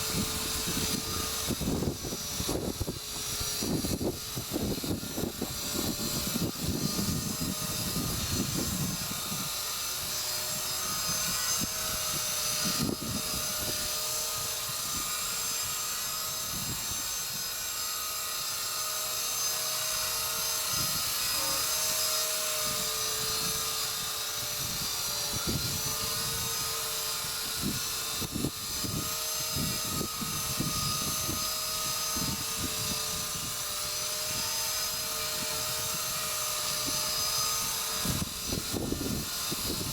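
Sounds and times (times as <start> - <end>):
rc helicopter whine hovering: 0.0 - 39.9
wind rumbling on microphone: 0.0 - 39.9.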